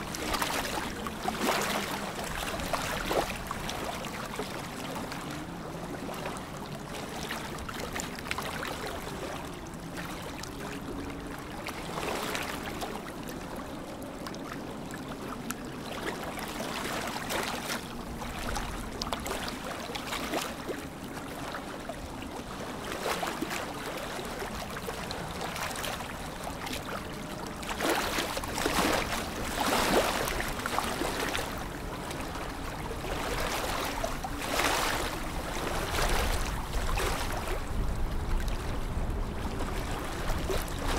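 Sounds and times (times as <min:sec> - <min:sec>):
lake water lapping and splashing: 0:00.0 - 0:40.9.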